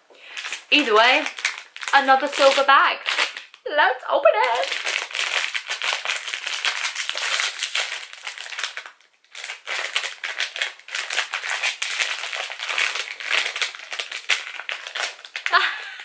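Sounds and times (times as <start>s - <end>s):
foil bag crinkling: 0.2s - 16.0s.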